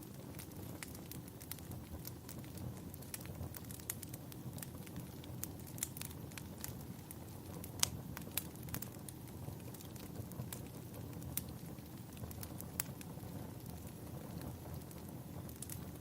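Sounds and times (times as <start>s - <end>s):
flames rumbling: 0.0s - 16.0s
wood fire crackling: 0.0s - 16.0s.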